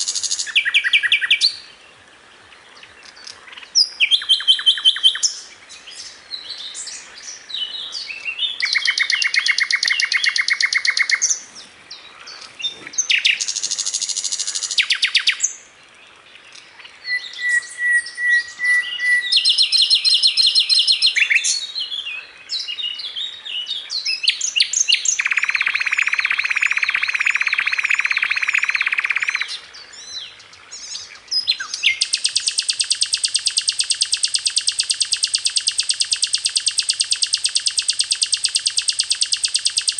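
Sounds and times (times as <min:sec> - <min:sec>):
flycatcher singing trills: 0:00.0 - 0:01.7, 0:03.1 - 0:15.5, 0:17.0 - 0:21.7, 0:24.0 - 0:39.9.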